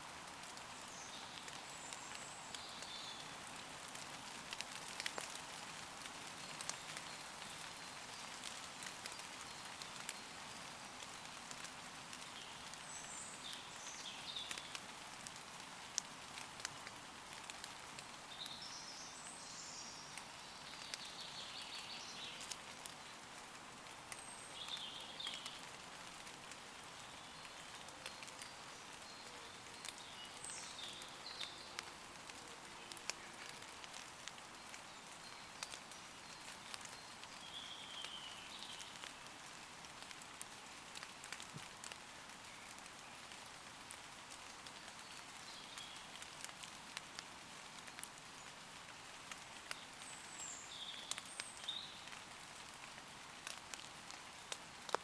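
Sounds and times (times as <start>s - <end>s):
light rain falling on leaves: 0.0s - 55.0s.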